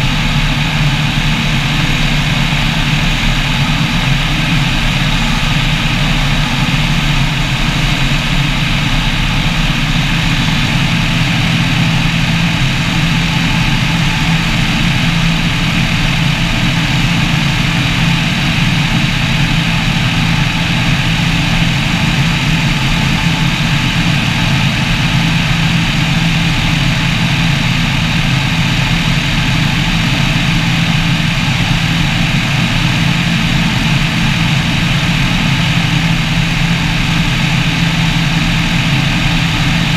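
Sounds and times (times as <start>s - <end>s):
microlight engine and propeller drone: 0.0s - 39.9s.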